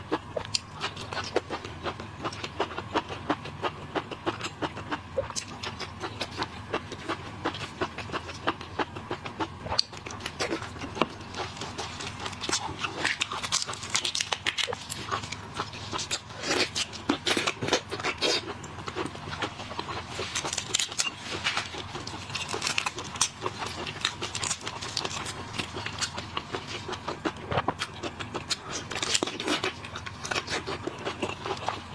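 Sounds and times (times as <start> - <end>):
wet chewing and lip-smacking: 0.1 - 31.9.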